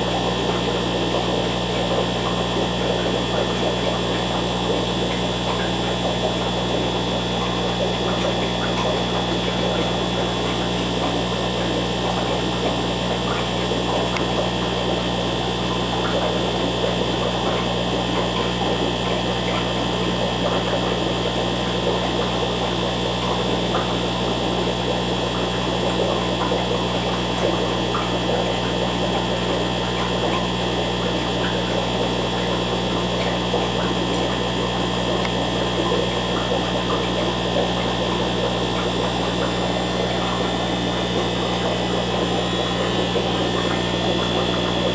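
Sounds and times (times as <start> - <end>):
aquarium equipment hum: 0.0 - 44.9.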